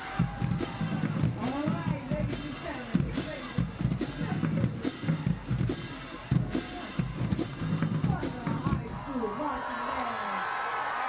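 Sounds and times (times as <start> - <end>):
marching band drums: 0.0 - 9.0
crowd voices: 0.0 - 11.0.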